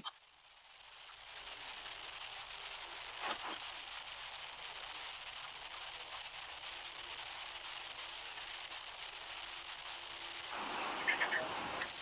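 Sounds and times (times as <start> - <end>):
steady audio hiss: 0.0 - 12.0
faint low hum: 1.0 - 12.0.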